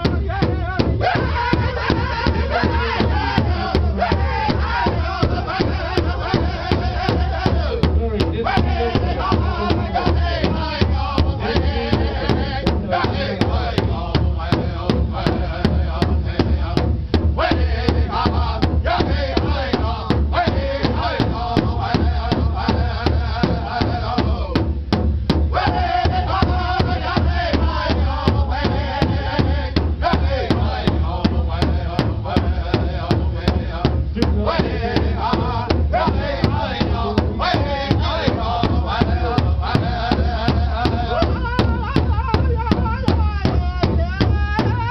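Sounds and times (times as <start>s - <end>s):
large drum beaten with sticks: 0.0s - 44.9s
men singing together: 0.0s - 44.9s.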